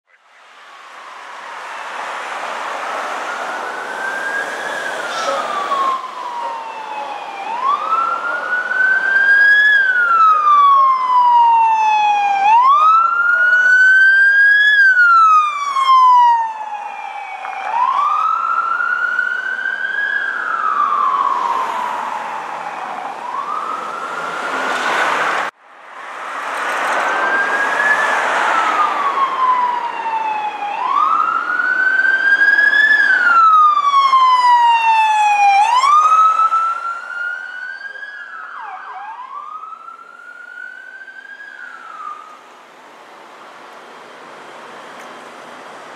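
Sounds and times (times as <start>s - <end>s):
traffic noise: 0.0s - 45.9s
police siren wailing: 0.4s - 25.5s, 27.0s - 45.6s.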